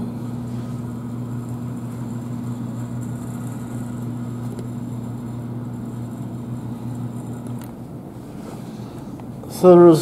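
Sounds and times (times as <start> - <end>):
toy train electrical hum: 0.0 - 10.0.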